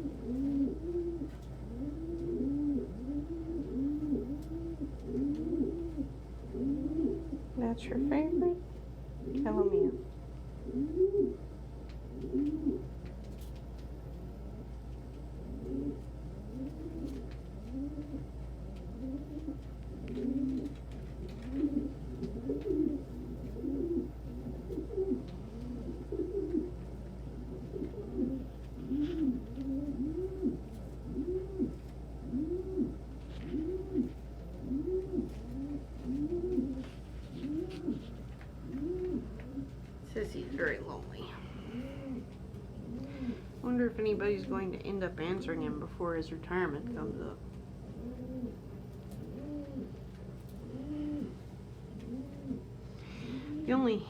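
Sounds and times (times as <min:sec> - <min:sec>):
pigeons cooing: 0:00.0 - 0:45.9, 0:46.5 - 0:54.0.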